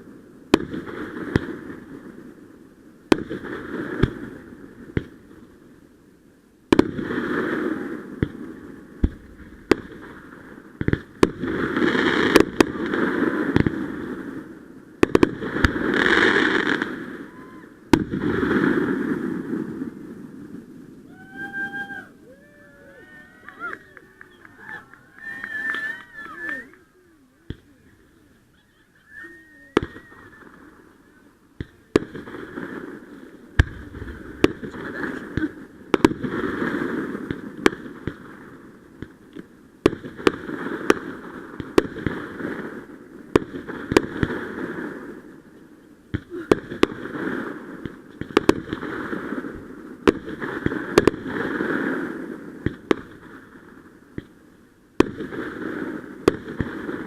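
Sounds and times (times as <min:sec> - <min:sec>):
fireworks bangs: 0:00.0 - 0:05.5, 0:06.7 - 0:57.0.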